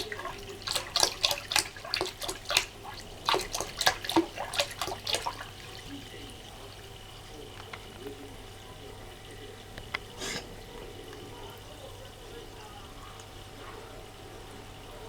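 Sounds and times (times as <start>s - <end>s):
cat lapping water: 0.0s - 14.9s
faint trickle of water: 0.0s - 15.0s.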